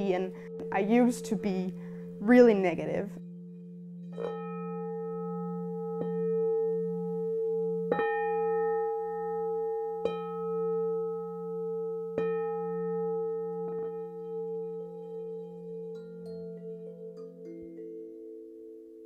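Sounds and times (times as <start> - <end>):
singing bowl struck and ringing: 0.0 - 19.0.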